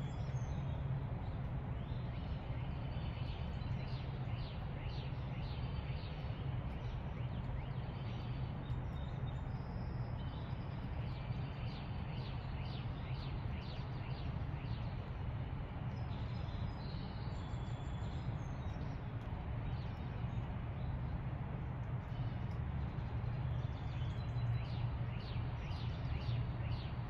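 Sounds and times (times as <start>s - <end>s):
songbirds chirping: 0.0s - 27.0s
steady low background rumble: 0.0s - 27.0s.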